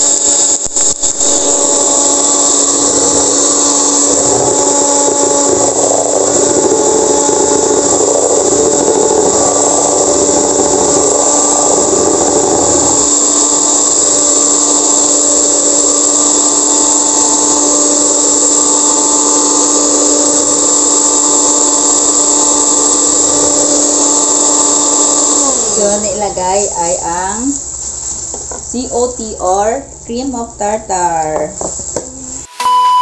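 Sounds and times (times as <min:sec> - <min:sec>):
electric hand mixer running: 0:00.0 - 0:29.2
low churning: 0:00.0 - 0:32.4.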